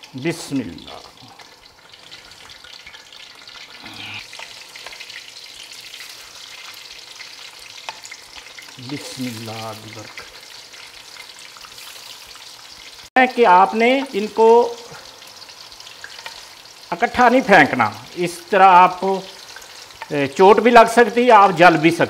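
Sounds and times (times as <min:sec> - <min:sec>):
meatballs sizzling in hot oil: 0:00.0 - 0:22.0.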